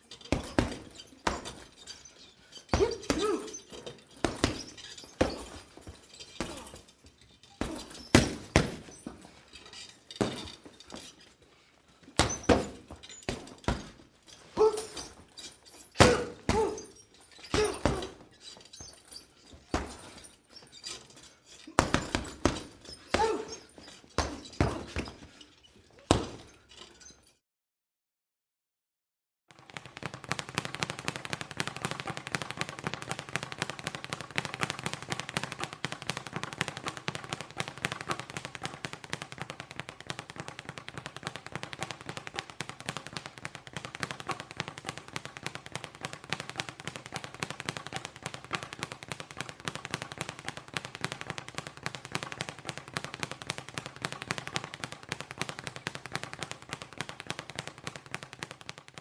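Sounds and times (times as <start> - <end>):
boxing punches landing: 0.2 - 1.9, 2.7 - 6.9, 7.6 - 9.3, 10.2 - 10.7, 12.1 - 20.4, 21.7 - 25.3, 26.1 - 26.5, 29.7 - 59.0.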